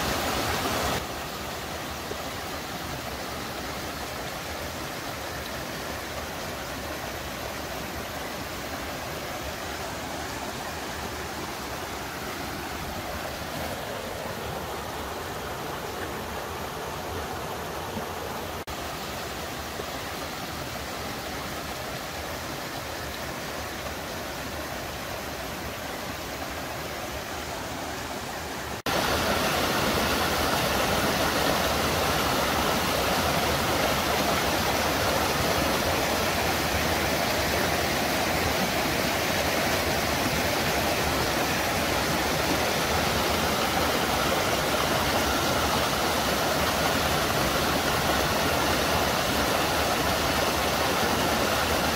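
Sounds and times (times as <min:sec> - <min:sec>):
water rushing over rocks: 0:00.0 - 0:51.9.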